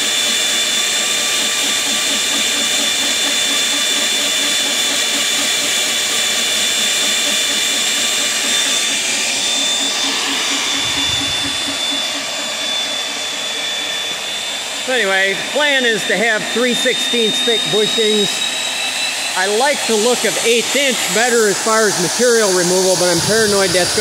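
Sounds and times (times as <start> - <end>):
drive motor whining with pulsing: 0.0 - 24.0
line boring machine cutting metal: 0.0 - 24.0.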